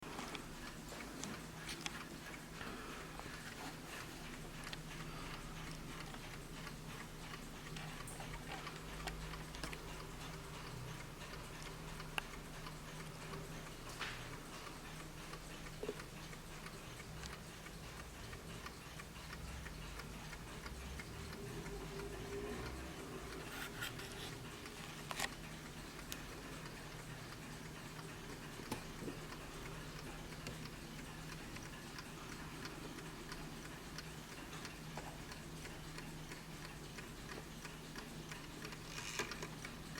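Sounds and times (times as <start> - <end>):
mantel clock ticking: 0.0 - 39.9
clock clicks: 0.1 - 39.9.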